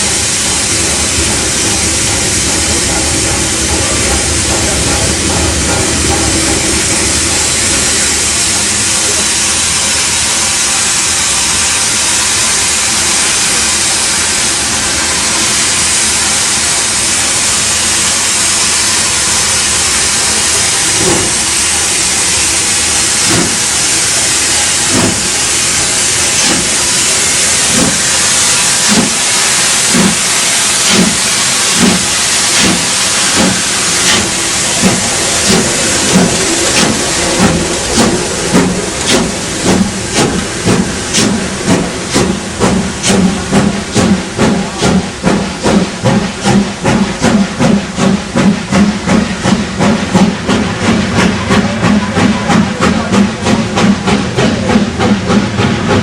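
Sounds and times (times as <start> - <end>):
steam hissing: 0.0 - 56.0
steam locomotive exhaust chuffs: 0.0 - 56.0.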